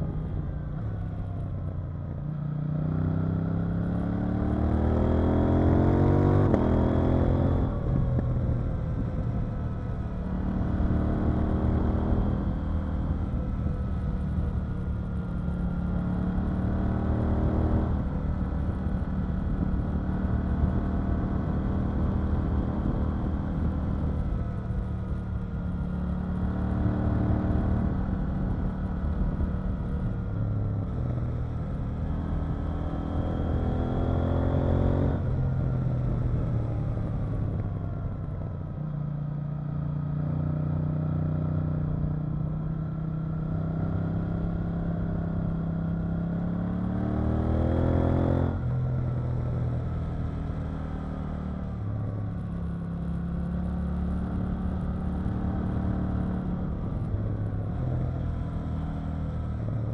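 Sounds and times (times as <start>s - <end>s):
motorcycle engine revving: 2.6s - 38.0s, 39.8s - 59.9s.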